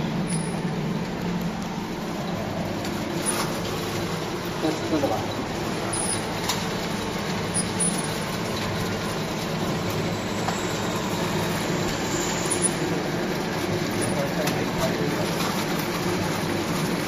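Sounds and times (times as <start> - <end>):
soldering machine humming and hissing: 0.0 - 17.0.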